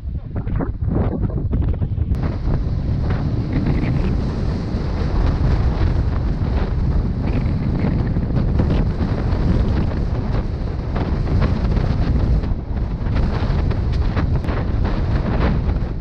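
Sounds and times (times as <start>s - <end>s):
wind buffeting microphone: 0.0s - 16.0s
motorcycle engine: 2.2s - 16.0s.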